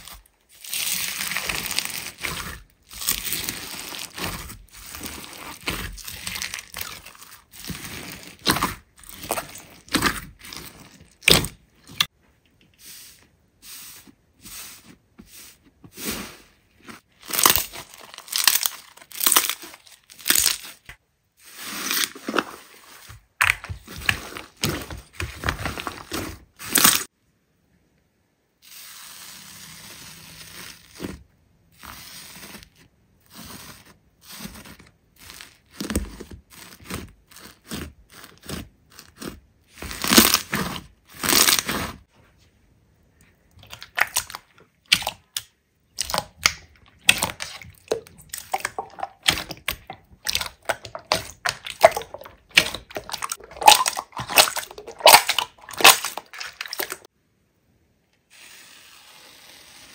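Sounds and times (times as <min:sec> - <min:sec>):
slime crackling and squishing: 0:00.0 - 0:12.1, 0:14.5 - 0:27.1, 0:28.7 - 0:42.1, 0:43.5 - 0:57.1.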